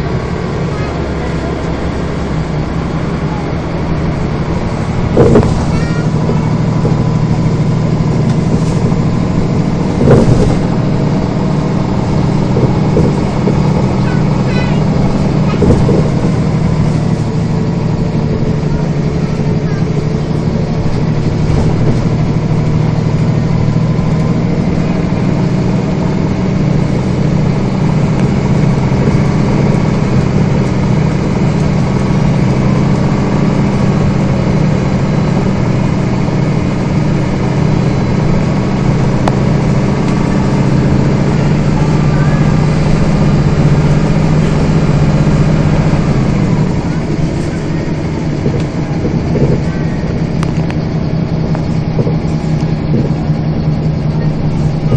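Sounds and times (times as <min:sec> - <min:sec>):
bus diesel engine droning: 0:00.0 - 0:54.9
road and cabin noise: 0:00.0 - 0:54.9.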